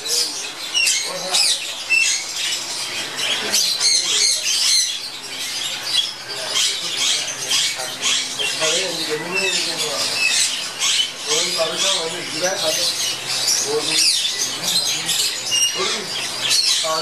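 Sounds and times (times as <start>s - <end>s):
budgerigars chattering and squawking: 0.0s - 17.0s.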